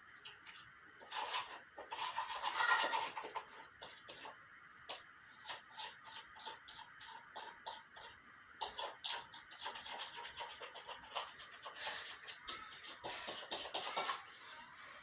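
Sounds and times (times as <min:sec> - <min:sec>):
slime stirred and scraped: 0:00.2 - 0:14.3.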